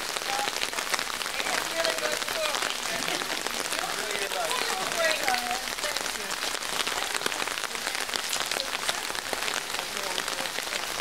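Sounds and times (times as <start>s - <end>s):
rain on hard surfaces: 0.0s - 11.0s.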